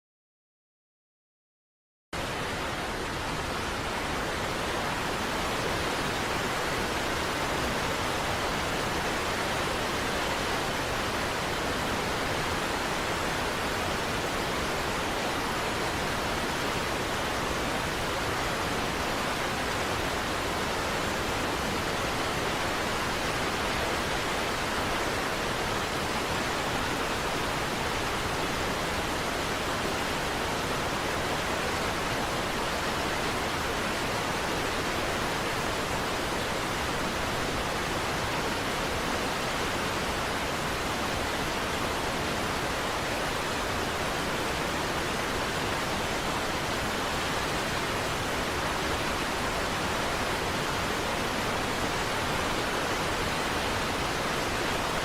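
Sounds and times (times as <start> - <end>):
waterfall rushing: 2.2 - 55.0.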